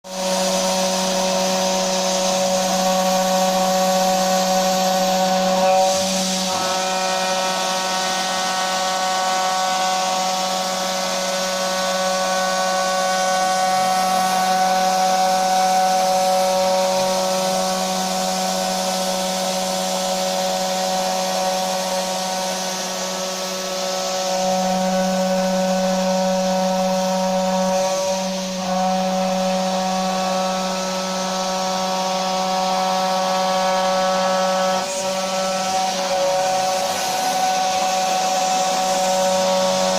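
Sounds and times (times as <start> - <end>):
machine spindle humming: 0.1 - 39.9.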